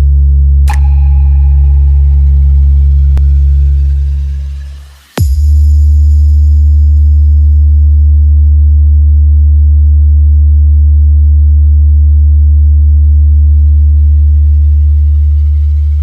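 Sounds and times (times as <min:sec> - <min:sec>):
deep bass test tone: 0:00.0 - 0:16.0.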